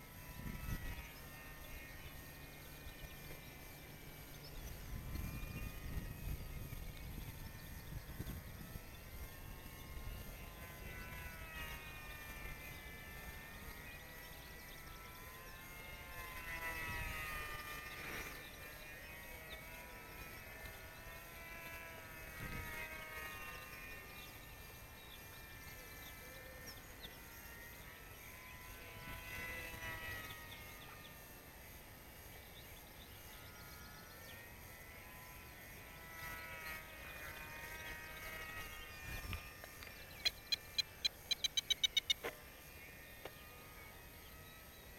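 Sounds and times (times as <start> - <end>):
model plane motor and propeller whine: 0.0 - 44.9.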